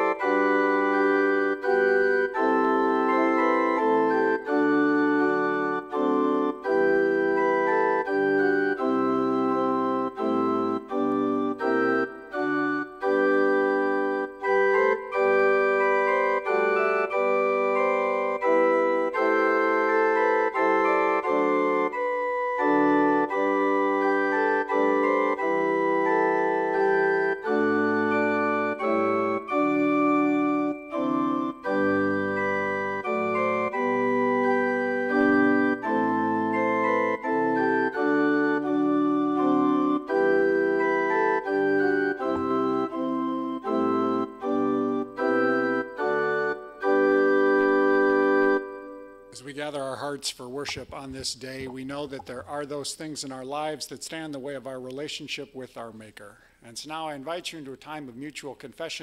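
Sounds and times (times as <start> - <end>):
church organ playing a hymn: 0.0 - 50.7.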